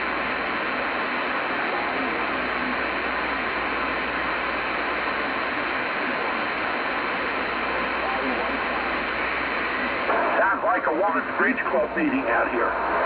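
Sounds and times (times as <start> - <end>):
radio static hiss: 0.0 - 13.0
faint garbled voices: 0.1 - 13.0.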